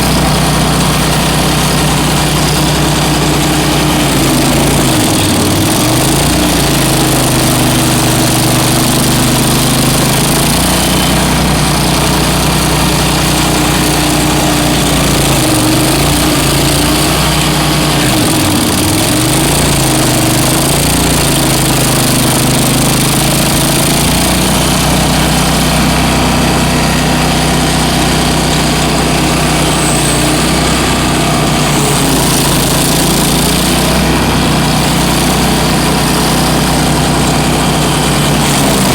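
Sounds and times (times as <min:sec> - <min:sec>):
stump grinder engine running: 0:00.0 - 0:38.9.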